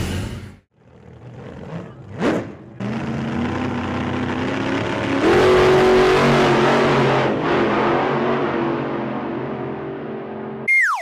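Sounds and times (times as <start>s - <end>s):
truck engine revving: 0.7s - 10.7s.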